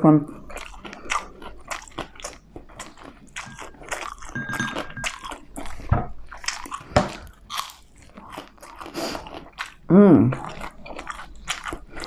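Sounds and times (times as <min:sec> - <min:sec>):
crunchy chewing: 0:00.3 - 0:12.0.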